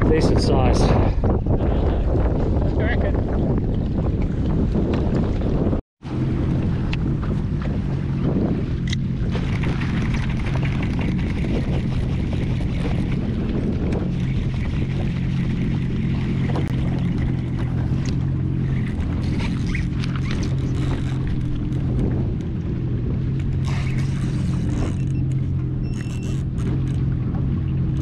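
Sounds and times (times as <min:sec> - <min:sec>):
jet ski engine running: 0:00.0 - 0:28.0
wind and water wash: 0:00.0 - 0:28.0.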